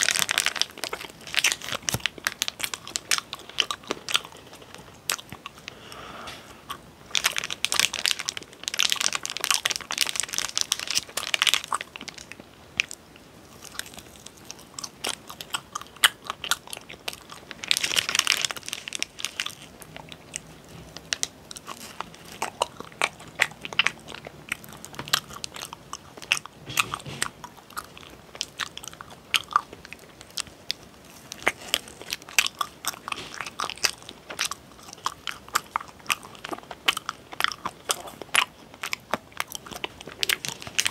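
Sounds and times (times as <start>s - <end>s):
crunchy bites and chewing: 0.0s - 40.9s.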